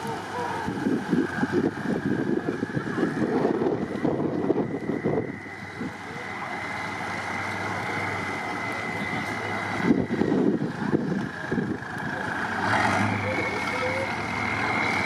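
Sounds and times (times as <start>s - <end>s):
truck engine under load: 0.0s - 15.0s.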